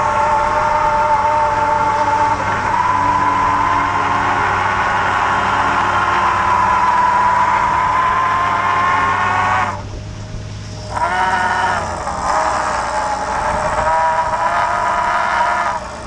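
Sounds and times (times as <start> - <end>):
hydraulic hauler whining: 0.0 - 16.0.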